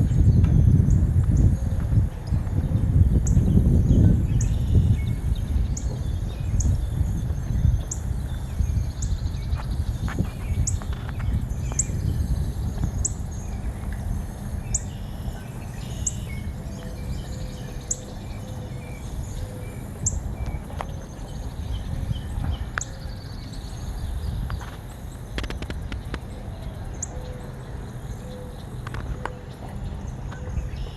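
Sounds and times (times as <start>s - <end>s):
steady low rumble: 0.0s - 30.9s.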